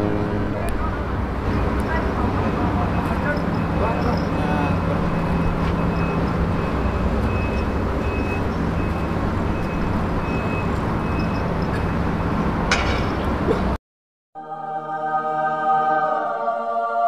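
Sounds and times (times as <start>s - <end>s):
low rumbling with hum: 0.0s - 13.8s.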